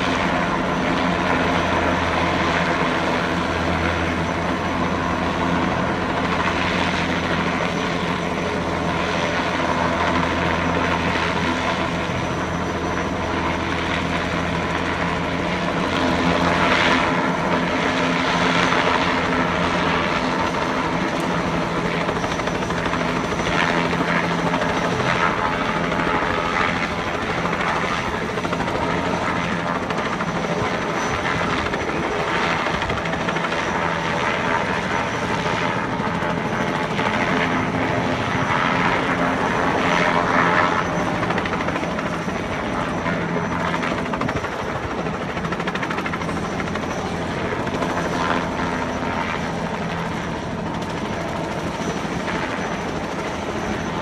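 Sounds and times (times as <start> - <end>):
helicopter flying overhead: 0.0 - 54.0.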